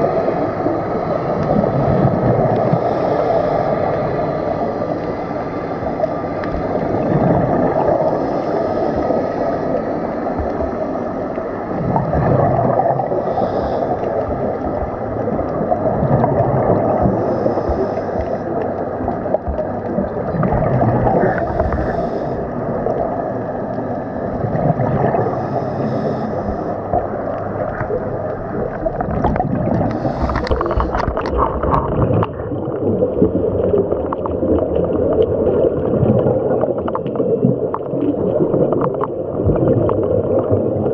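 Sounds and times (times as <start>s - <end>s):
regulator bubbles gurgling: 0.0s - 40.9s
underwater rumbling wash: 0.0s - 40.9s.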